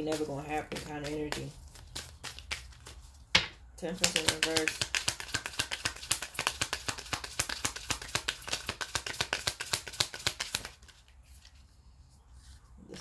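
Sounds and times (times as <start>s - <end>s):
cards being shuffled: 0.0s - 3.2s, 3.9s - 11.7s.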